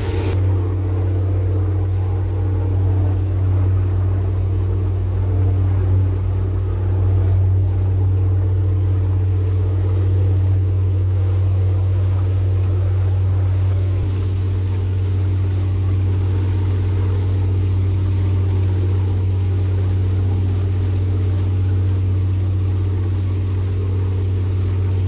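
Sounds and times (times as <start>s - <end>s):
churning boat wake rushing: 0.0s - 25.0s
speedboat engines droning: 0.0s - 25.0s.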